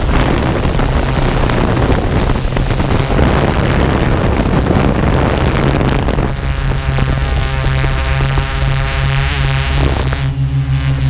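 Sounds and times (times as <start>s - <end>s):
drone rotors humming: 0.0s - 11.0s
wind buffeting microphone: 0.0s - 11.0s.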